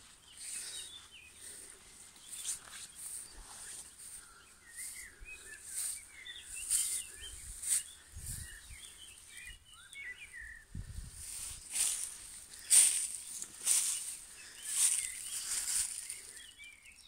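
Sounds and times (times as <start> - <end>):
footsteps through dry grass: 0.0 - 16.9
small birds chirping: 0.0 - 17.0.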